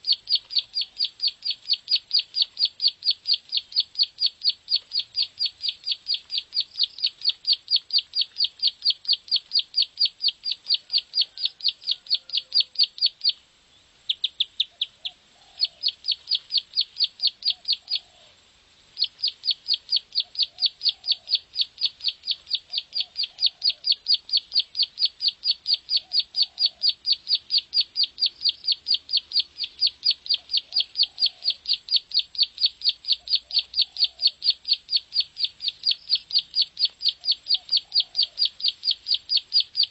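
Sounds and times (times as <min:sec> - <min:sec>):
bird singing rapid rattling call: 0:00.0 - 0:13.4, 0:19.0 - 0:39.9.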